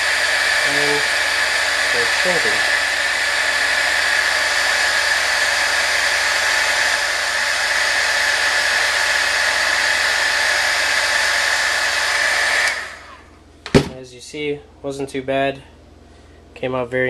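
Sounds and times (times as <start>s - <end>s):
heat gun blowing air: 0.0s - 13.9s.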